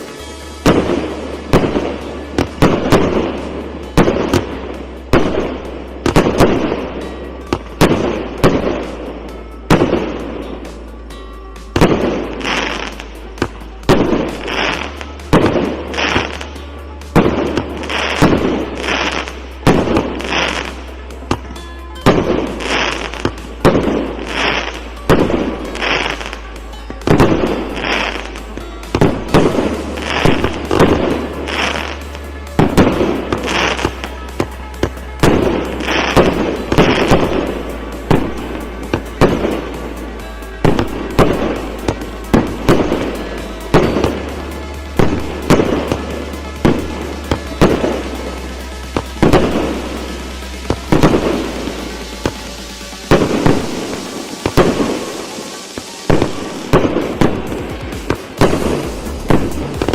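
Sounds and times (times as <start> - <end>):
firework crackle: 0.0 - 59.9
fireworks launching and bursting: 0.0 - 59.9.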